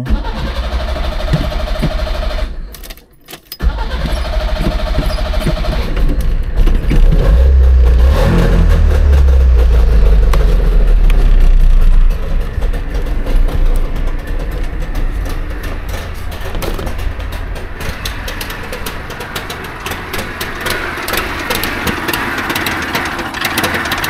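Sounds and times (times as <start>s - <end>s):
two-stroke engine idling: 0.0s - 2.7s, 3.6s - 24.0s.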